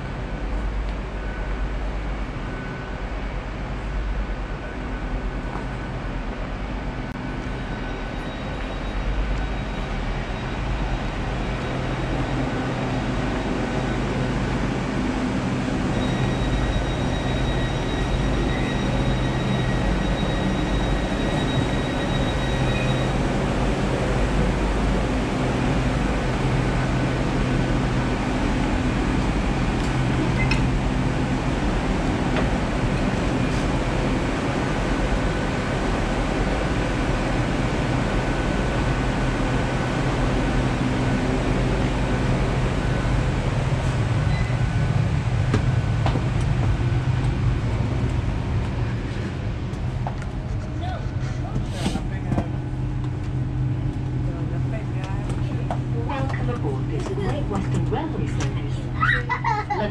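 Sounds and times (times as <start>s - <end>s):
train engines rumbling: 0.0s - 59.9s.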